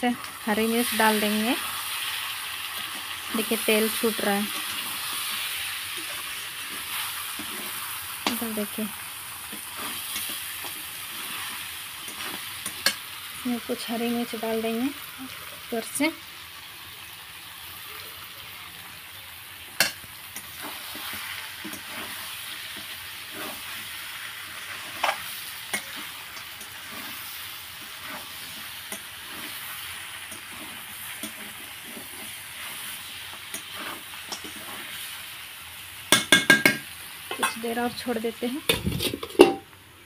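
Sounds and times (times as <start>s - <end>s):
curry sizzling in oil: 0.0s - 39.7s.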